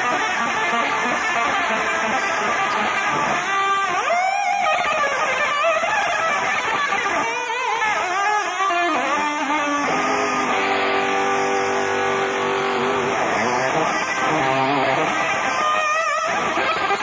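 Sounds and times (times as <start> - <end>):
electric guitar solo: 0.0 - 17.0.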